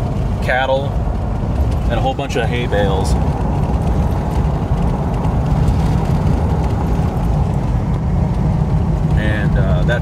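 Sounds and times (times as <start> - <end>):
truck driving rumble from cab: 0.0 - 10.0.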